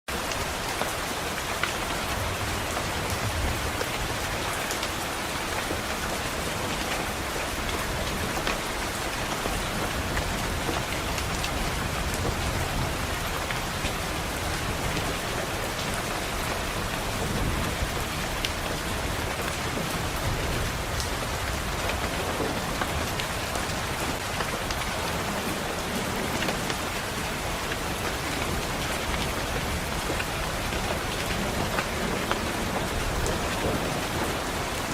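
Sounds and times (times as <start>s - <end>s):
rain pattering on a window: 0.1s - 34.9s.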